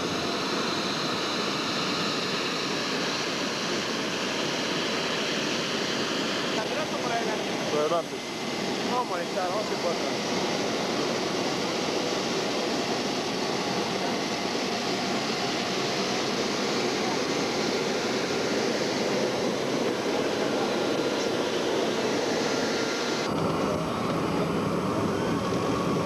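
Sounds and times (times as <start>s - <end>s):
airliner rushing noise: 0.0s - 26.0s.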